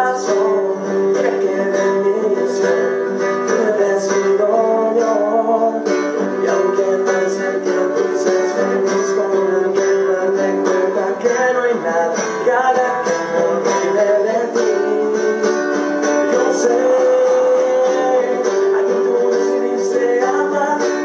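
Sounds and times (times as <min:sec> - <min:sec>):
acoustic guitar strummed: 0:00.0 - 0:21.0
man singing: 0:00.0 - 0:21.0.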